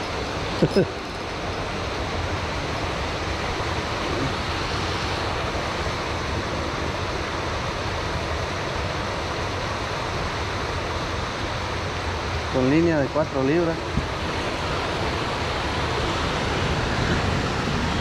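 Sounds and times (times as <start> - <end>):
water rushing below dam: 0.0 - 18.0.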